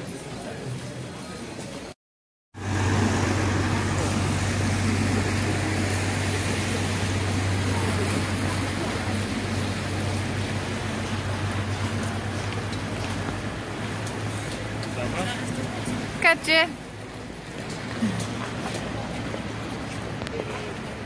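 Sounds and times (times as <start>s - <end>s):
boat engine humming: 2.6s - 21.0s.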